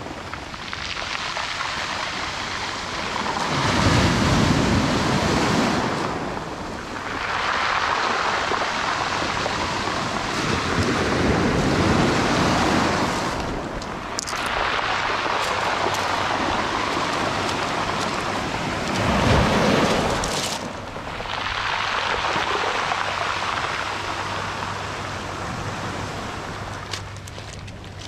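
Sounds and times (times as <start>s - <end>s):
sea waves washing onto beach: 0.0s - 28.0s.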